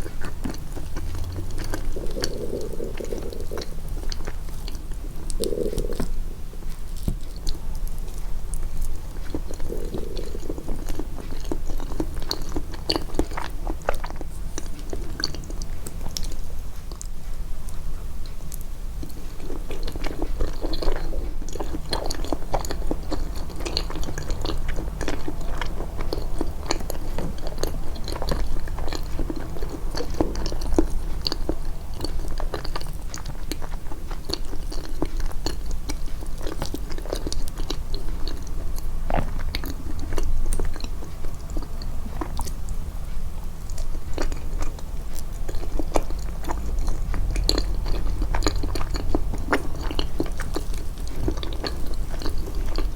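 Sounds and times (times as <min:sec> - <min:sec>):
chewing food: 0:00.0 - 0:52.9
steady low hum: 0:00.0 - 0:52.9.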